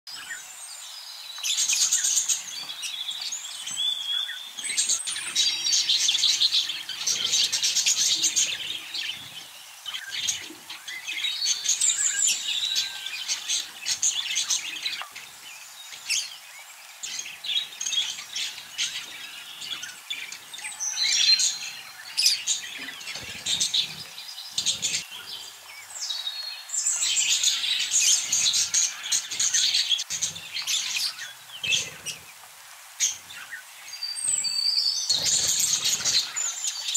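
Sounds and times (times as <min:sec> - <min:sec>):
budgerigars chattering and chirping: 0:03.6 - 0:16.4, 0:17.0 - 0:32.4, 0:33.0 - 0:36.9.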